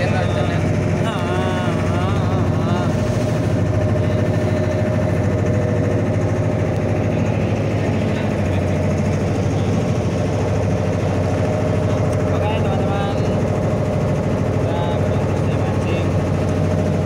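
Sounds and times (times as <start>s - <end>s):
boat engine throbbing: 0.0s - 17.0s.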